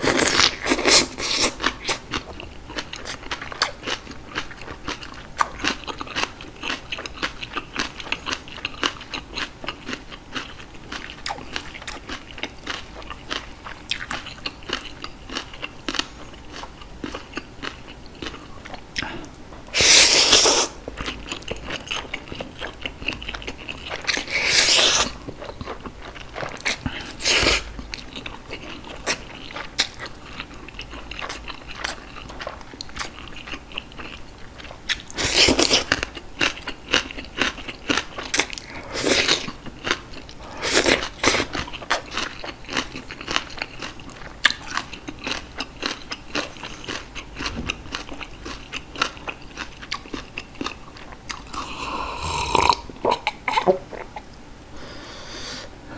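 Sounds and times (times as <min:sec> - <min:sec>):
chewing and crunching food: 0:00.0 - 0:54.3.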